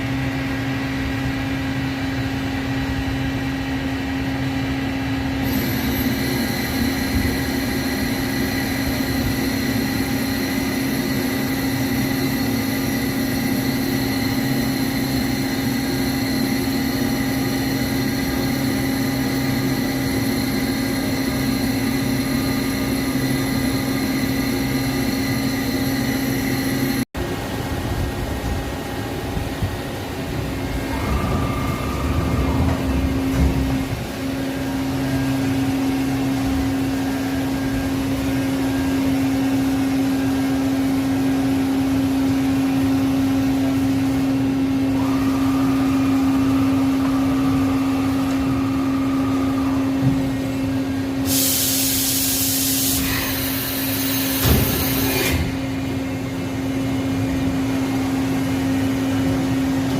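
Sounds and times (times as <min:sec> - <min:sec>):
machine whining tones: 0:00.0 - 0:59.9
machining center humming: 0:00.0 - 0:59.9.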